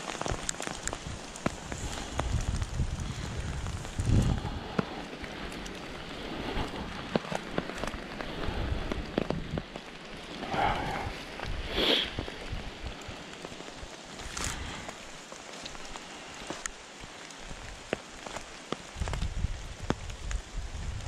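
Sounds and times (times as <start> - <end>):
raindrops tapping on umbrella: 0.0 - 21.0
steady hiss of rain: 0.0 - 21.0.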